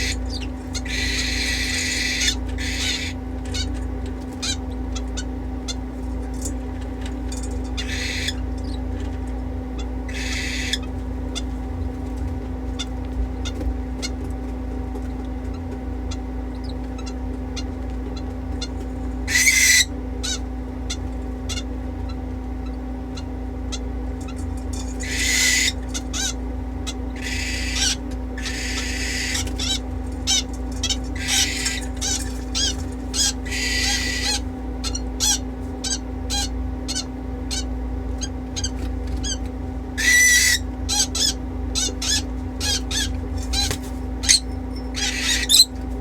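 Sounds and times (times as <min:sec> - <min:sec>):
parrots chirping and screeching: 0:00.0 - 0:11.6, 0:12.6 - 0:14.4, 0:15.0 - 0:46.0.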